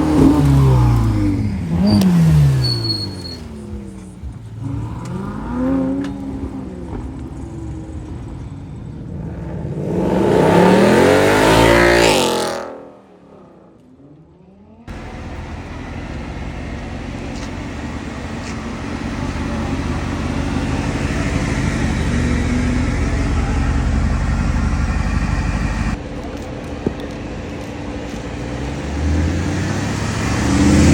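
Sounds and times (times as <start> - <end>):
low engine rumble: 0.0 - 12.0, 13.0 - 30.9
road noise: 0.0 - 30.9
sports car engine revving: 0.0 - 30.9.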